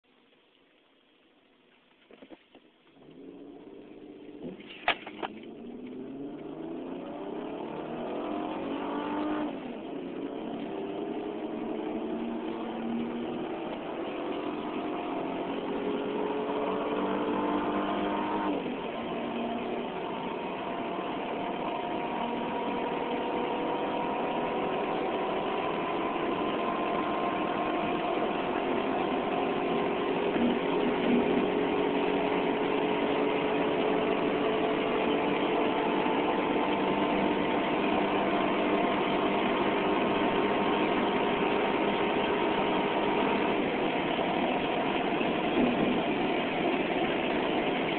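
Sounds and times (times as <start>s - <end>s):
road and wind noise: 2.1s - 47.9s
car engine accelerating: 2.8s - 47.9s.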